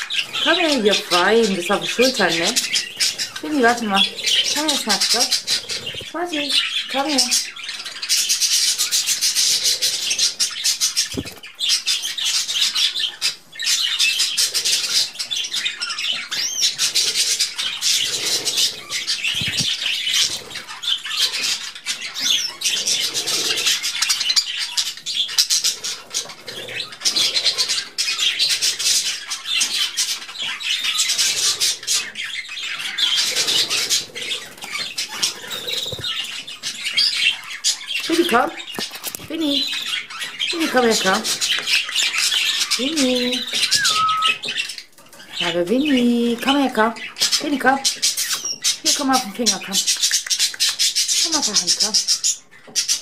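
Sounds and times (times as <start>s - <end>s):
budgerigars chattering and chirping: 0.0s - 53.0s.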